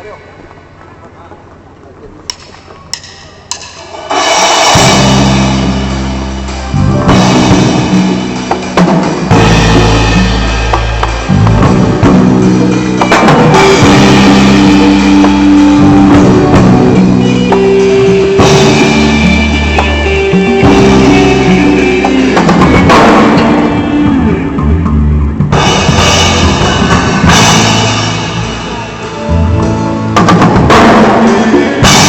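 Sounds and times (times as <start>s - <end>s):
drum kit hits: 2.3s - 32.0s
live band playing loudly: 2.3s - 32.0s
held low notes: 4.8s - 32.0s.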